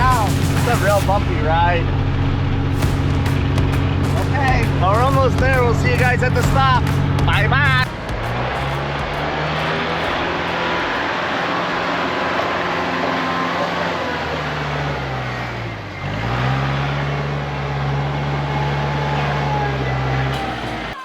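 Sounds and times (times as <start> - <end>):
diesel engine running: 0.0 - 21.0
road noise: 0.0 - 21.0.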